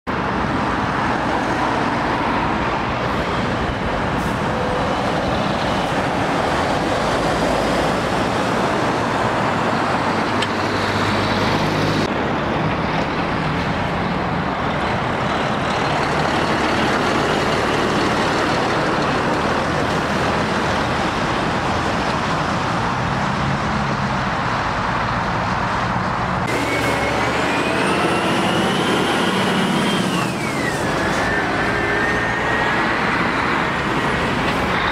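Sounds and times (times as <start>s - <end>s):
car traffic: 0.1s - 34.9s
lorries passing close by: 0.1s - 34.9s.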